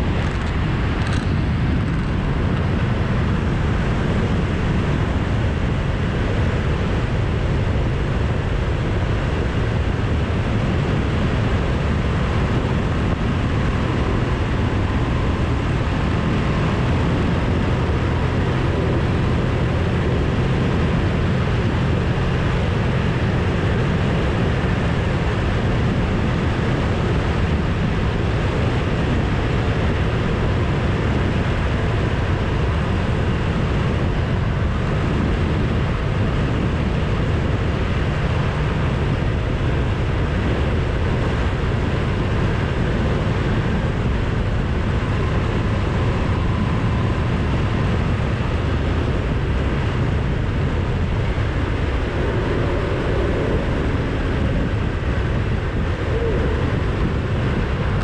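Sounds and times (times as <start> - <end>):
motorcycle engine droning: 0.0 - 58.0
wind rushing over microphone: 0.0 - 58.0.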